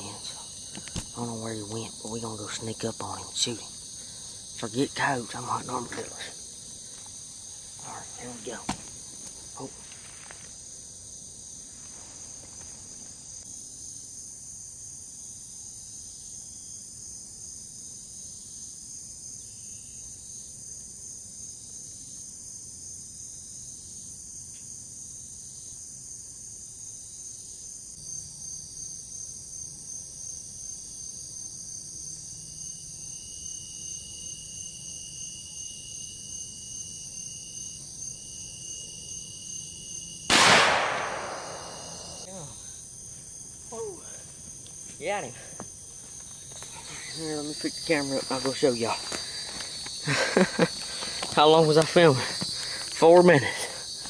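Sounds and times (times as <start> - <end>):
crickets chirping: 0.0 - 54.0
pulsing insect calls: 0.0 - 54.0.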